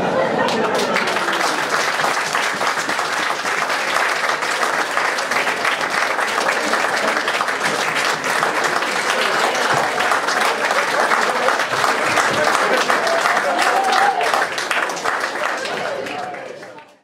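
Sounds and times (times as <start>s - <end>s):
audience applauding: 0.1s - 17.0s.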